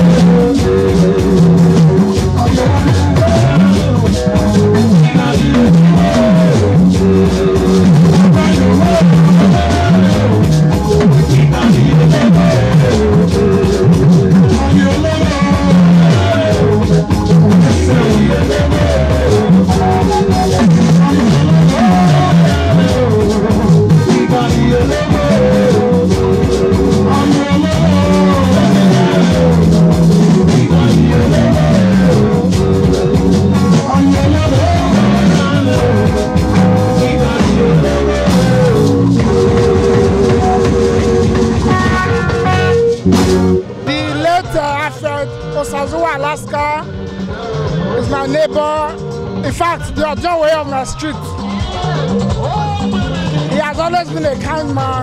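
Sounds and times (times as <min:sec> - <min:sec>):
electric guitar: 0:00.0 - 0:50.2
drum kit beat: 0:00.0 - 0:55.0.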